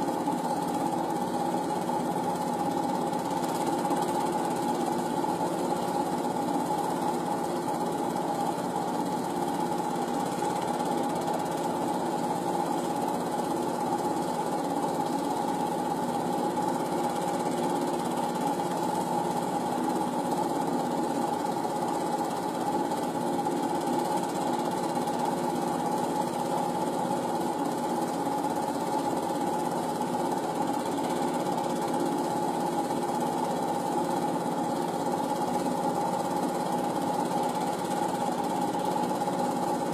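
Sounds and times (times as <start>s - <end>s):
film projector clattering: 0.0s - 39.9s
projector hum: 0.0s - 39.9s.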